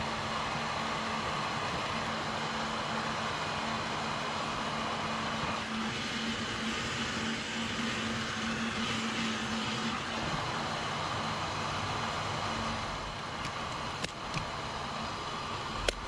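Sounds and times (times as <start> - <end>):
heat gun blower whirring: 0.0 - 16.0
steady hum: 0.0 - 16.0.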